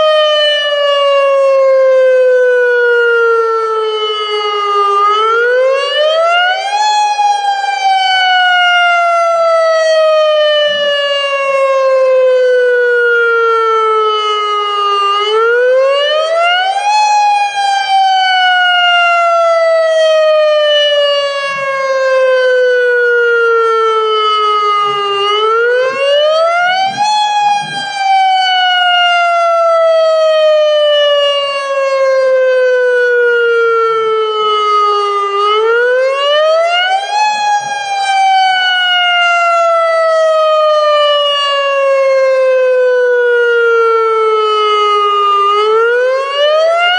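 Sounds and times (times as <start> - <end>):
warning siren wailing: 0.0 - 46.9.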